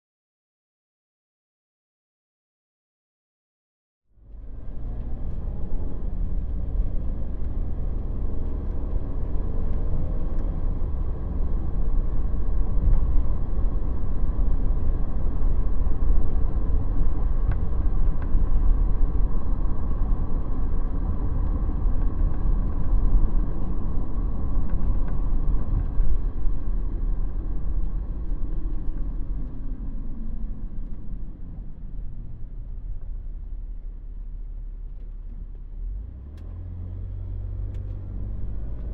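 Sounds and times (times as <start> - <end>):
van engine and road rumble: 4.1 - 38.9.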